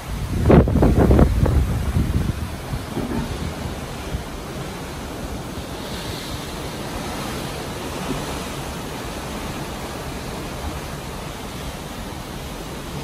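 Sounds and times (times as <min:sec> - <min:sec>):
seawater rushing along ship hull: 0:00.0 - 0:13.0
wind buffeting microphone: 0:00.0 - 0:13.0.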